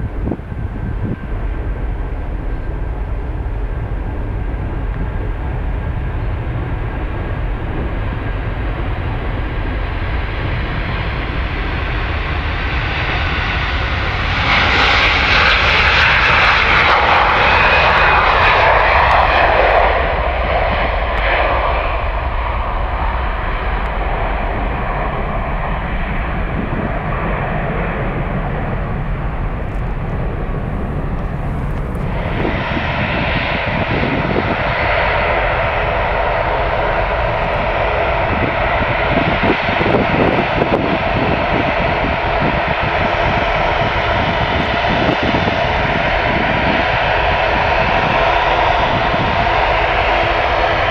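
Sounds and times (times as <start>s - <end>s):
airliner taxiing engine noise: 0.0s - 50.9s
jet airliner taking off: 0.0s - 50.9s.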